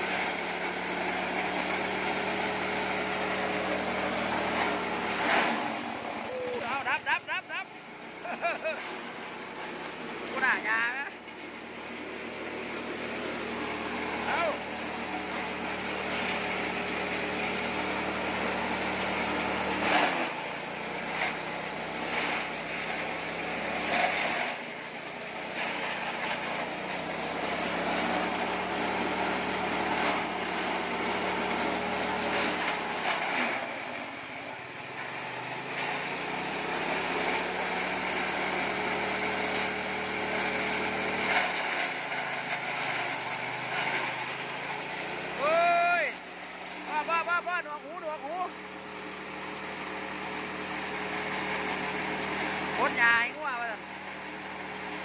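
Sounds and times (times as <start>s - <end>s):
grass chopper engine running: 0.0s - 55.0s
stalks being cut: 0.0s - 55.0s.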